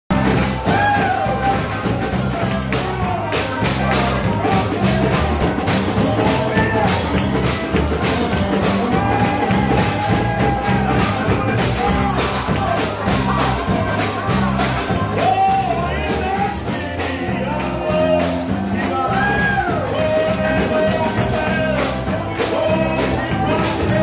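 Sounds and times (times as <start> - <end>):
bass: 0.0 - 24.0
drum kit and cymbals: 0.1 - 24.0
guitar: 0.1 - 24.0
piano: 0.1 - 24.0
tambourine: 0.1 - 24.0
voices singing melody: 0.1 - 24.0.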